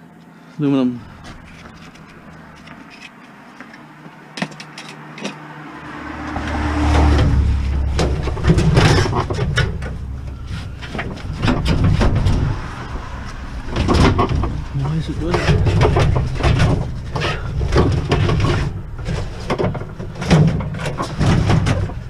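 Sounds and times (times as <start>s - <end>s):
vehicle engine rumble: 0.0s - 22.0s
sharp clicks and knocks: 1.3s - 5.4s, 6.2s - 12.6s, 13.2s - 22.0s.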